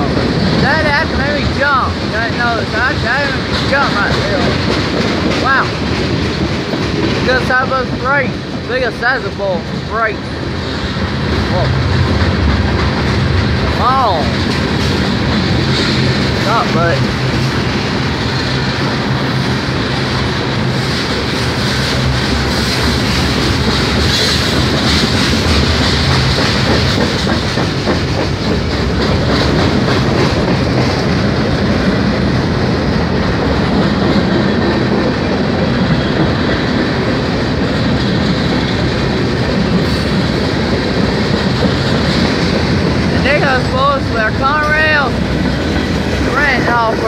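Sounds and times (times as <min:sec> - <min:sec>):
freight train wheels rumbling on rails: 0:00.0 - 0:47.0
rail clacking: 0:00.0 - 0:47.0.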